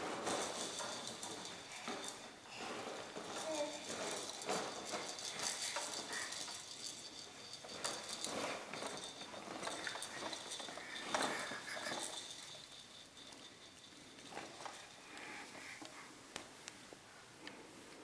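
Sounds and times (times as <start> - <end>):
plastic wheels rolling on wooden floor: 0.0 - 15.9.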